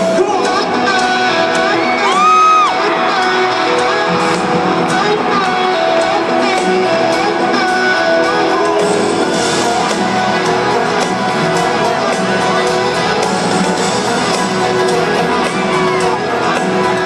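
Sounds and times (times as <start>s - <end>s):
live country band: 0.0s - 17.0s.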